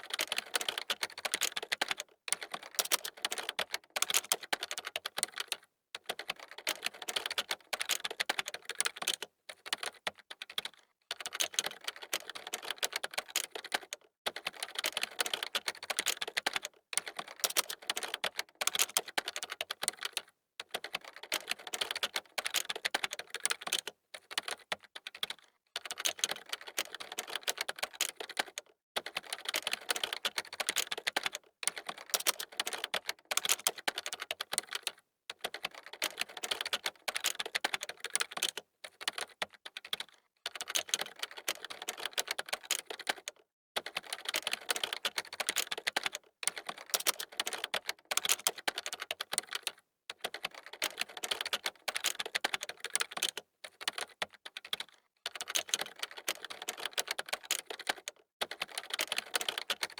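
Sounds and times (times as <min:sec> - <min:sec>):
fast typing on a keyboard: 0:00.0 - 0:59.9.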